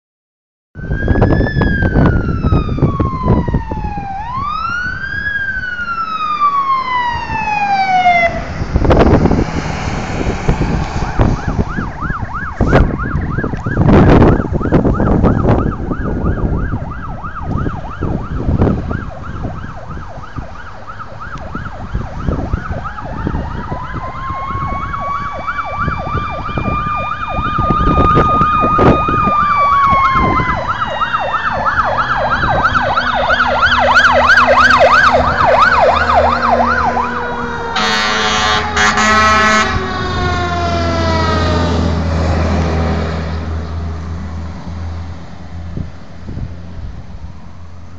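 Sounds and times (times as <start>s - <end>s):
second siren winding up: 0.8s - 9.4s, 11.0s - 41.7s
fire truck siren wailing: 0.8s - 47.9s
rushing vehicle noise: 0.8s - 47.9s.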